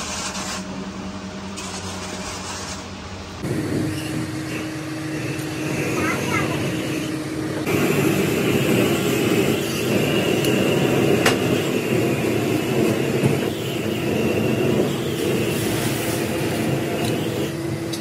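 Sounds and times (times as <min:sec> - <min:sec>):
machinery rumble: 0:00.0 - 0:18.0.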